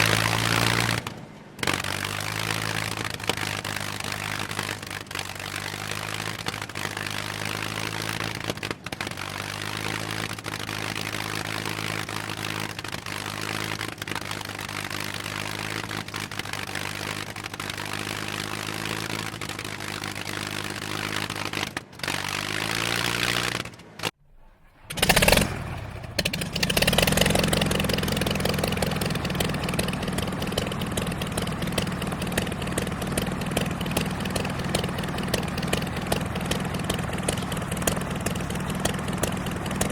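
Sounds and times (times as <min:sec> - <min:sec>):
piston aircraft engine running: 0:00.0 - 0:39.9.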